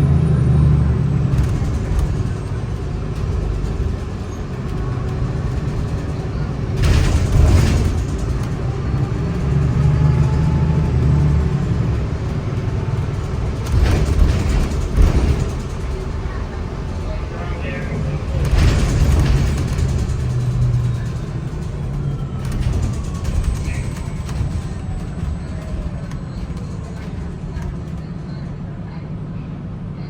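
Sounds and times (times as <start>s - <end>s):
bus engine droning: 0.0s - 30.0s.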